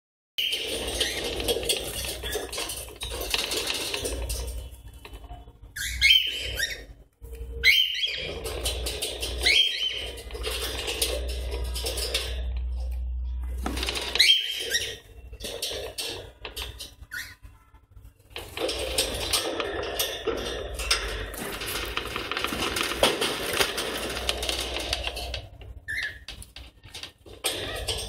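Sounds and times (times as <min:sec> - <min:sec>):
birds clicking scratching and pecking: 0:00.4 - 0:28.0.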